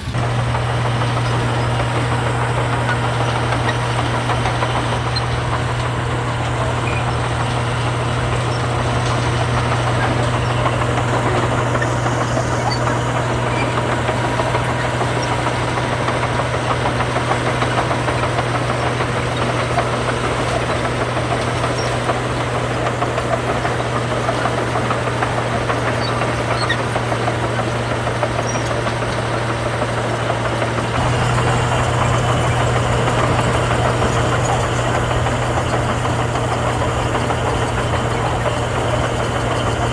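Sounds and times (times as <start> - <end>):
heavy diesel engine humming: 0.0 - 39.9.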